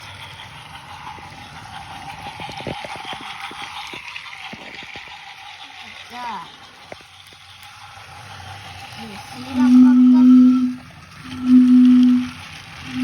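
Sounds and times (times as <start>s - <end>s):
toy train whirring on track: 0.0s - 13.0s
track clicks and clacks: 0.0s - 13.0s.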